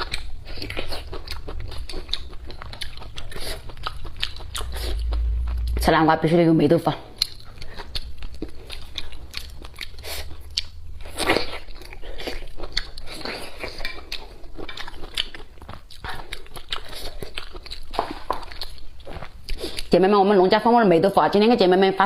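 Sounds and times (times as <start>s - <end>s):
wet chewing and smacking: 0.0s - 5.8s, 7.0s - 20.0s.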